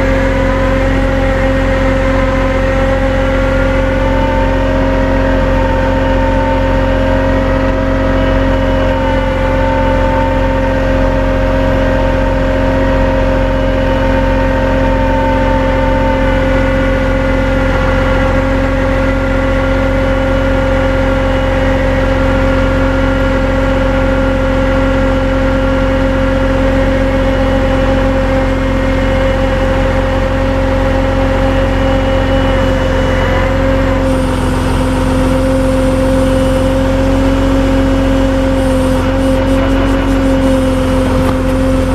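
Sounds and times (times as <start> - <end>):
tow truck engine running: 0.0 - 41.9
winch whine: 0.0 - 41.9.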